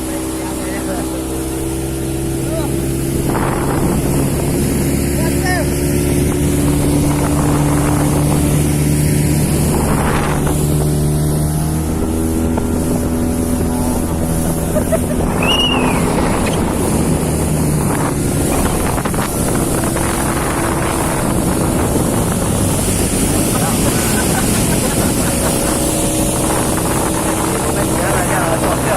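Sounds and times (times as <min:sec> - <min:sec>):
outboard motor running: 0:00.0 - 0:28.9
rushing water: 0:00.0 - 0:28.9
wind on microphone: 0:00.0 - 0:28.9.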